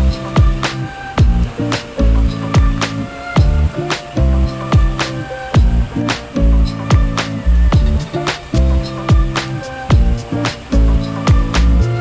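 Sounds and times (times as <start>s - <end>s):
plucked-string notes: 0.0s - 12.0s
regular percussion hits: 0.0s - 12.0s
sustained bass: 0.0s - 12.0s.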